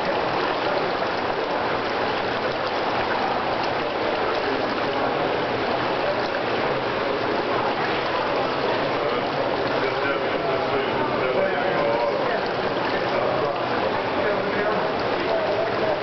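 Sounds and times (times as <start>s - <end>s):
steady water noise: 0.0s - 16.0s.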